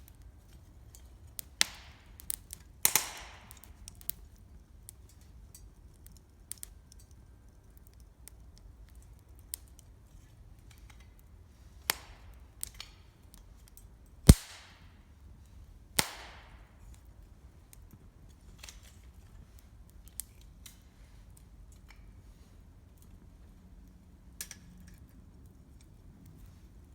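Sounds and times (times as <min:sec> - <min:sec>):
burning wood popping: 0:00.0 - 0:22.2
campfire crackling: 0:00.0 - 0:26.9.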